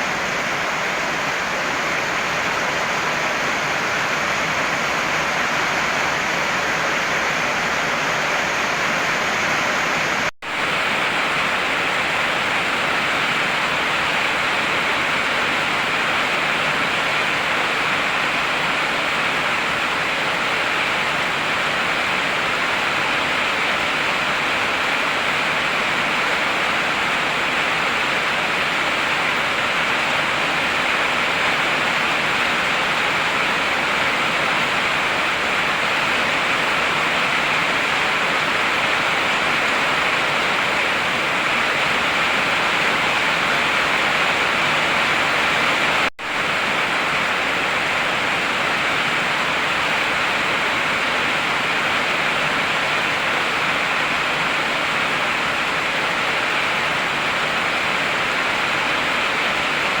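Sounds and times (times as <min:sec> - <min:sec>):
heavy rain hissing: 0:00.0 - 1:00.0.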